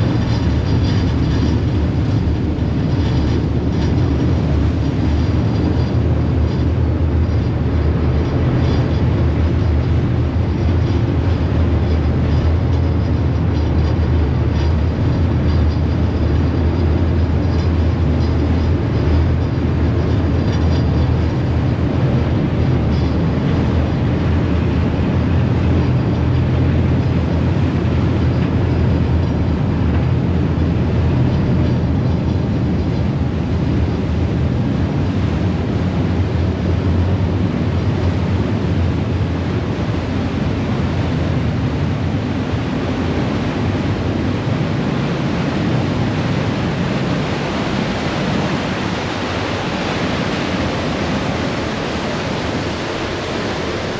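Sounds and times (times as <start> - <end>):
ferry diesel engine drone: 0.0 - 53.9
propeller wash churning: 0.0 - 53.9.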